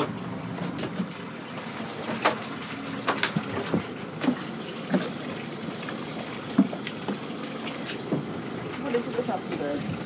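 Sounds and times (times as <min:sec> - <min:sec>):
boat engine idling: 0:00.0 - 0:10.0
water splashing against hull: 0:00.0 - 0:10.0.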